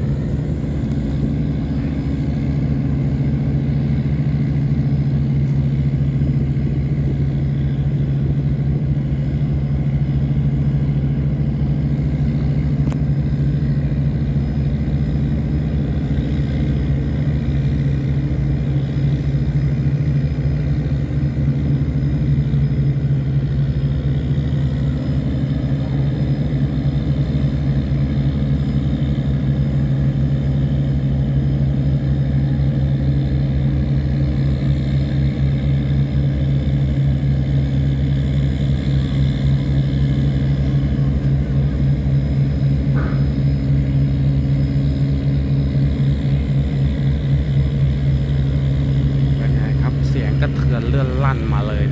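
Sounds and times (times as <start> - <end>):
tugboat engines droning: 0.0 - 51.9.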